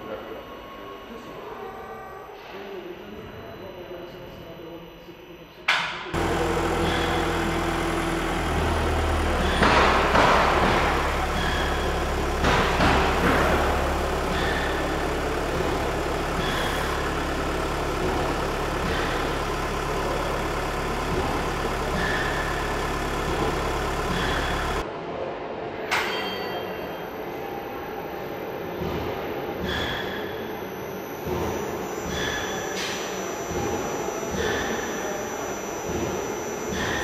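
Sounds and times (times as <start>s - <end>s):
factory machinery hum: 0.0s - 25.0s, 25.8s - 37.0s.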